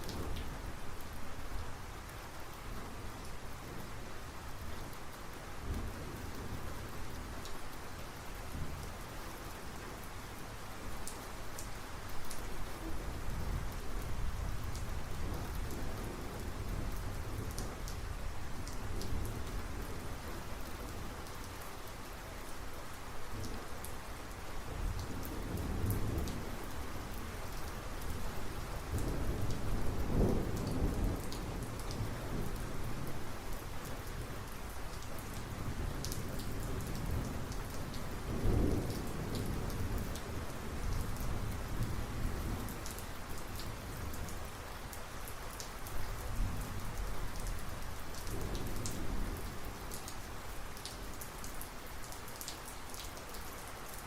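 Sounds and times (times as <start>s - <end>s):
heavy rain hitting surfaces: 0.0s - 54.0s.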